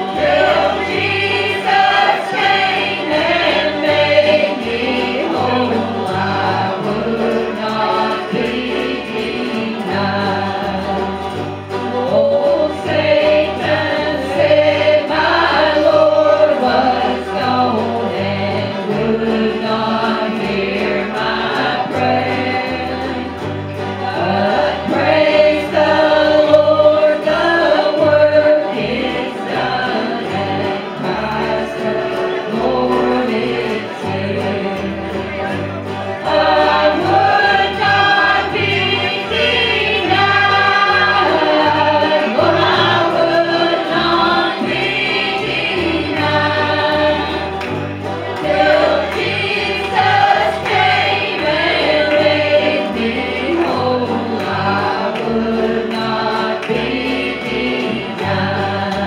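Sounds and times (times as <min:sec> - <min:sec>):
man and woman singing a hymn: 0:00.0 - 0:59.0
plucked upright bass: 0:00.0 - 0:59.0
strummed acoustic guitars: 0:00.0 - 0:59.0.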